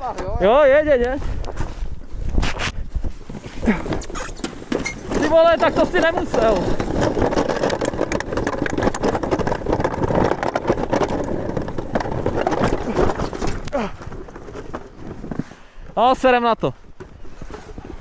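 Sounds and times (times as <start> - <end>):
sled knocking over bumps: 2.9 - 18.0.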